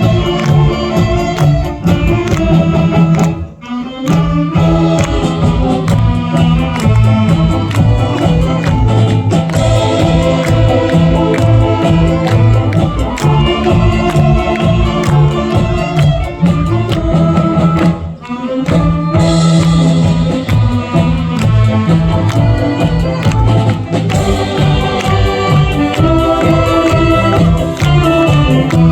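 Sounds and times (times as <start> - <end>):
steady drum beat: 0.0 - 3.5, 4.1 - 28.9
saxophone big band playing: 0.0 - 28.9.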